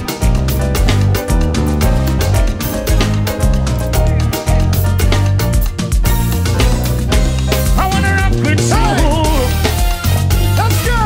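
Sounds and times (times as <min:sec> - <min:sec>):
drum beat: 0:00.0 - 0:11.0
heavy bass line: 0:00.0 - 0:11.0
live band playing up-tempo music: 0:00.0 - 0:11.0.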